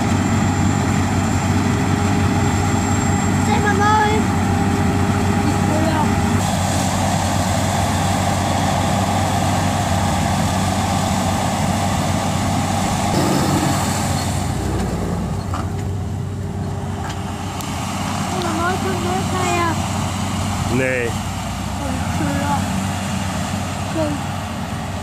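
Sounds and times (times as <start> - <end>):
combine harvester drone: 0.0 - 25.0
tractor passing: 0.0 - 25.0.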